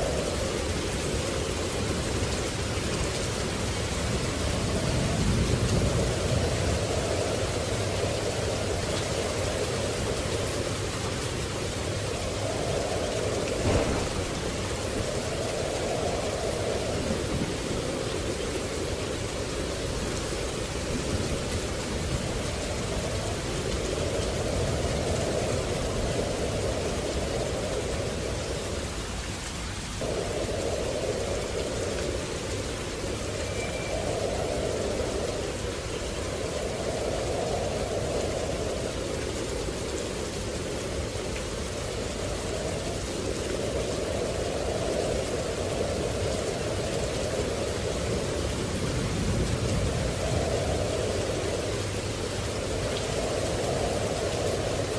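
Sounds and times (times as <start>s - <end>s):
low thunder rumble: 0.0s - 29.3s, 30.0s - 54.9s
steady rain: 0.0s - 54.9s.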